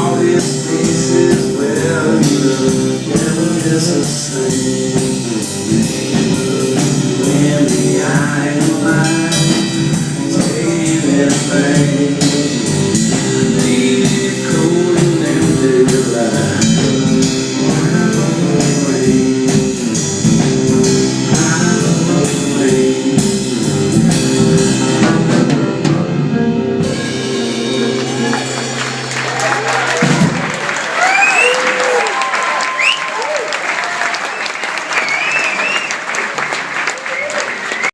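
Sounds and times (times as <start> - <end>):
live band with drums and guitar: 0.0 - 37.9.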